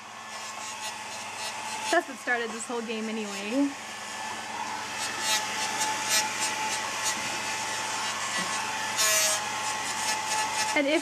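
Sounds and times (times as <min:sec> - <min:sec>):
hair dryer motor whine: 0:00.0 - 0:11.0
rush of air from hair dryer: 0:00.0 - 0:11.0.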